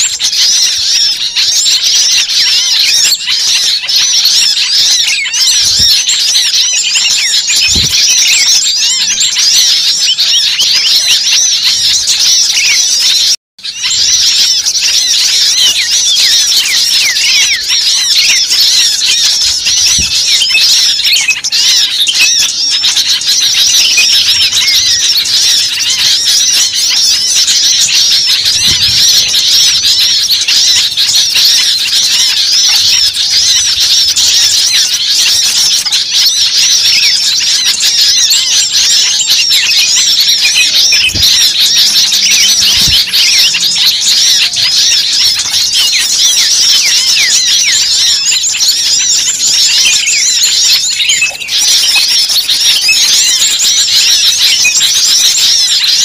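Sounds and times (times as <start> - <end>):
chorus of small birds chirping: 0.0 - 56.0.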